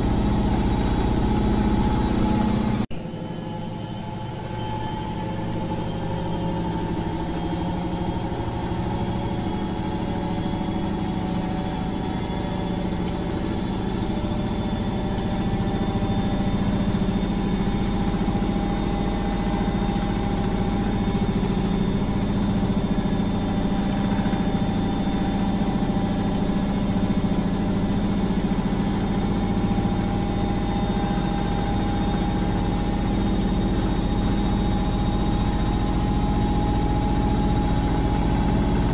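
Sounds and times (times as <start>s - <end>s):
washing machine running: 0.0s - 3.0s, 6.3s - 38.9s.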